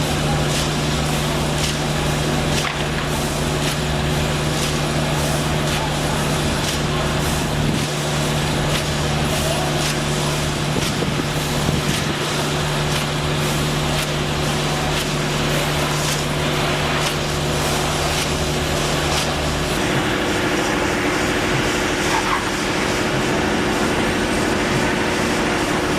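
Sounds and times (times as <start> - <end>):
steady engine hum: 0.0 - 25.9.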